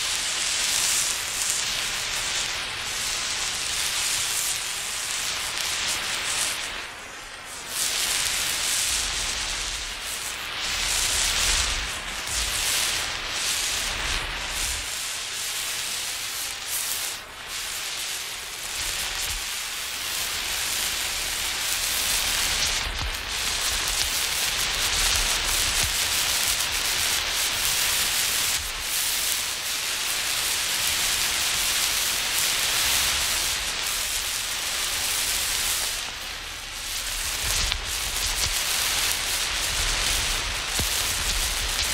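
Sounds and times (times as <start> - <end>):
road flare hissing and sputtering: 0.0 - 41.9.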